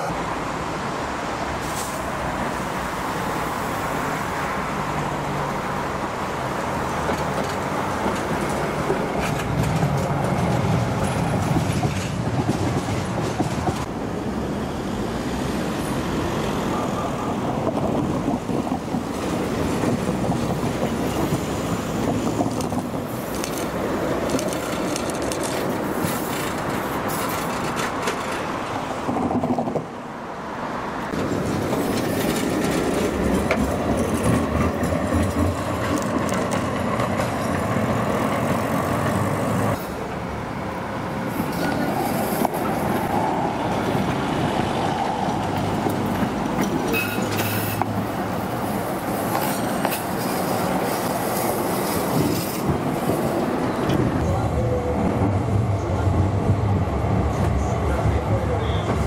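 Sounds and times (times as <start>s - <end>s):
tram wheels rumbling on track: 0.0s - 59.0s.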